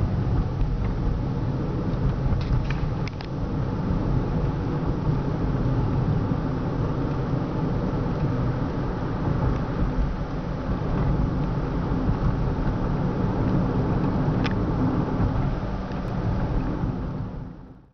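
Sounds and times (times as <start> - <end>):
in-cabin car road rumble: 0.0 - 17.9.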